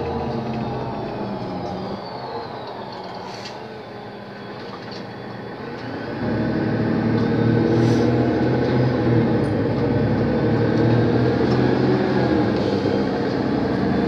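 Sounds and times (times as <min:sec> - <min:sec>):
high whine gliding down: 0:00.0 - 0:12.6
bus diesel engine: 0:00.0 - 0:14.0.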